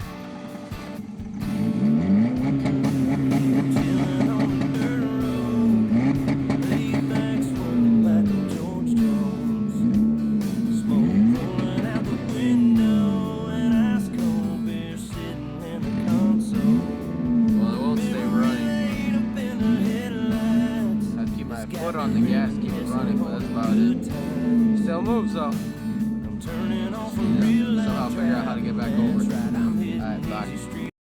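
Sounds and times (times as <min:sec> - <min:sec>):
car engine revving: 0:00.0 - 0:30.9
guitar music with singing: 0:00.0 - 0:30.9.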